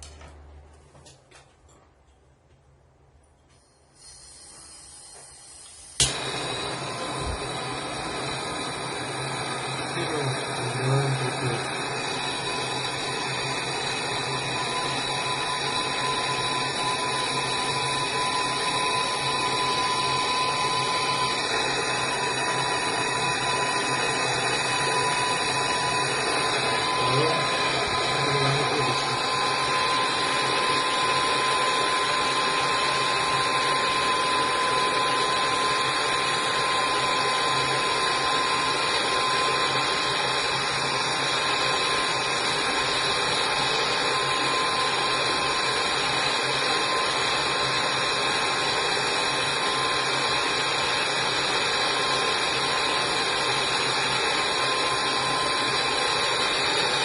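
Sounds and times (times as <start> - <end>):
gas torch hissing: 3.5 - 57.0.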